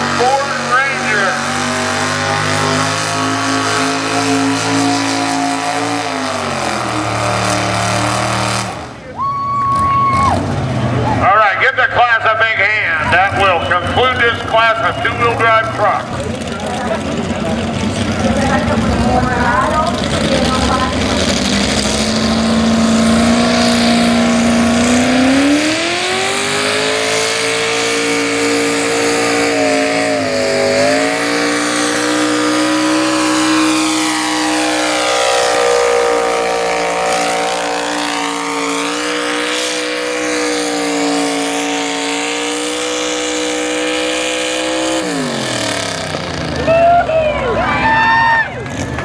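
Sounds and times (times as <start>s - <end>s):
truck engine at full throttle: 0.0s - 49.0s.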